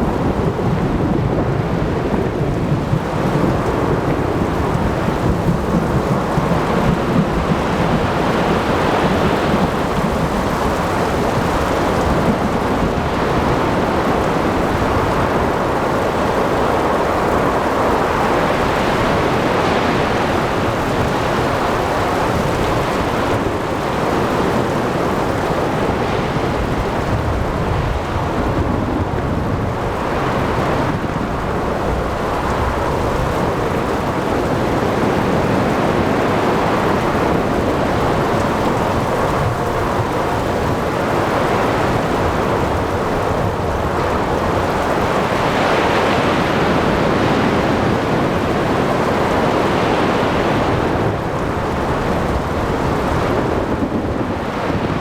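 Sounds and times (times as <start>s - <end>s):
rain: 0.0s - 55.0s
waves: 0.0s - 55.0s
wind: 0.0s - 55.0s.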